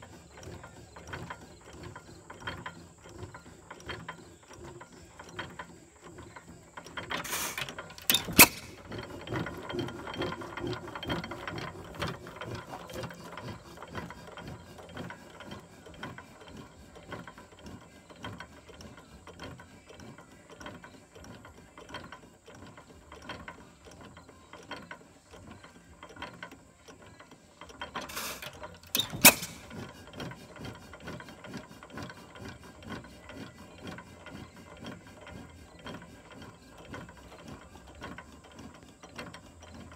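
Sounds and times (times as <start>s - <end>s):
engine rapid clicking: 0.0s - 39.9s.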